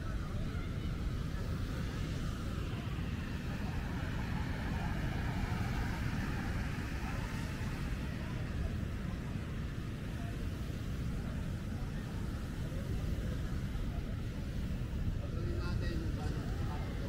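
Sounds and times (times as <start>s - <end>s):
wind buffeting microphone: 0.0s - 17.0s
surf breaking on beach: 0.5s - 17.0s.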